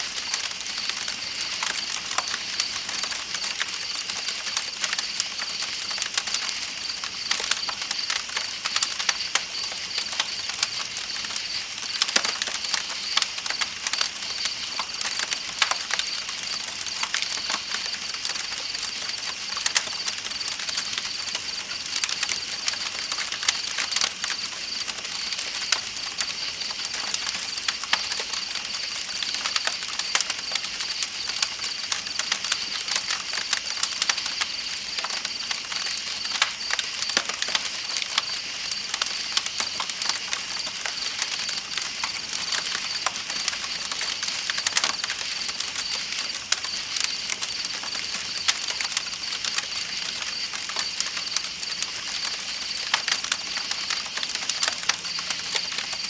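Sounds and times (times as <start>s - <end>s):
campfire crackling and popping: 0.0s - 56.0s
night insects chorus: 0.0s - 56.0s.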